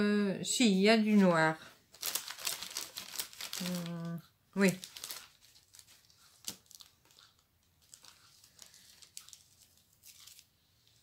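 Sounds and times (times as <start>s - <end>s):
plastic bags rustling: 1.8s - 11.0s.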